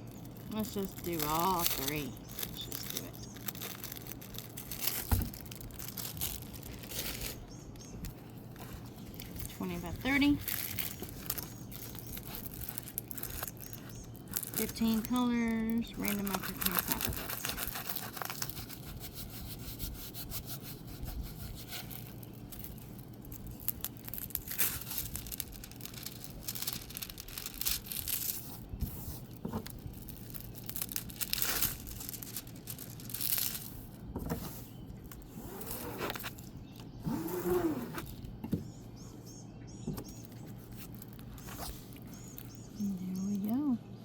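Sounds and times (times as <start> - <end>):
plastic crinkling and rustling: 0.0 - 38.8, 39.8 - 42.8.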